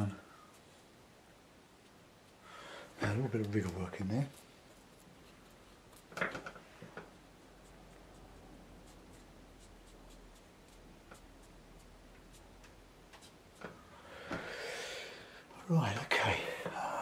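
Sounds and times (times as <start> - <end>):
brush dabbing on paper: 0.0 - 13.9
low steady hum: 0.0 - 17.0.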